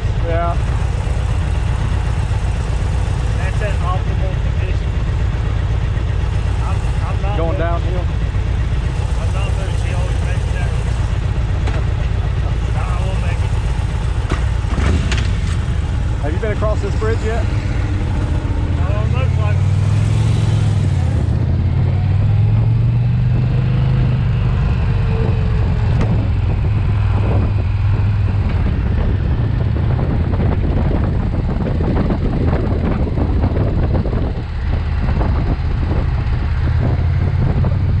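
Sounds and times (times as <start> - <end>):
motorcycle engine cruising: 0.0 - 38.0
wind buffeting microphone: 5.1 - 38.0.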